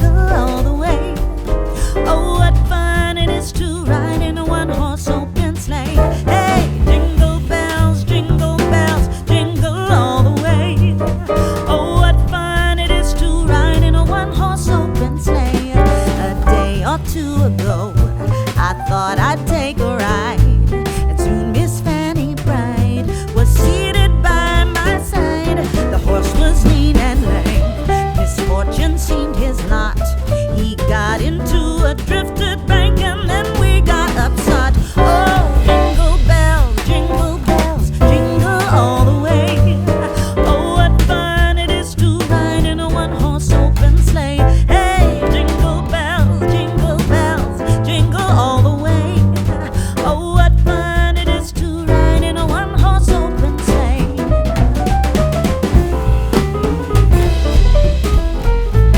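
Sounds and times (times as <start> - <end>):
heavy bass line: 0.0 - 58.9.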